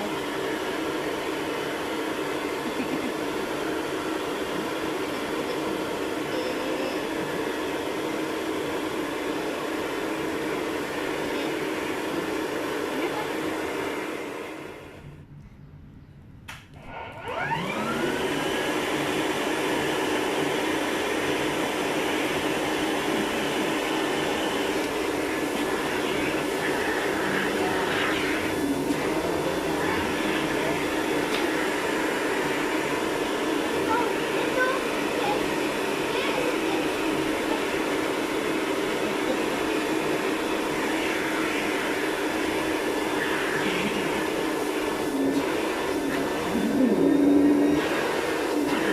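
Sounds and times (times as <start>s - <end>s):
vacuum cleaner motor whining: 0.0s - 15.1s, 16.8s - 48.9s.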